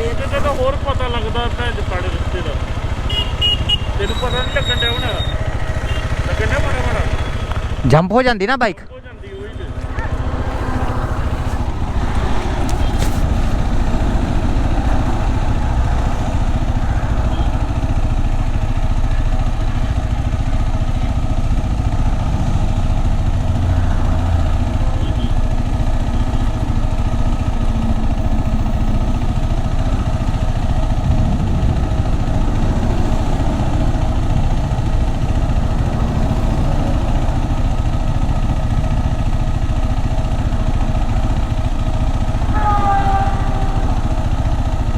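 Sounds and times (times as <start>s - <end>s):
motorcycle engine running: 0.0s - 8.2s, 8.8s - 44.9s
wind and road noise: 0.0s - 44.9s.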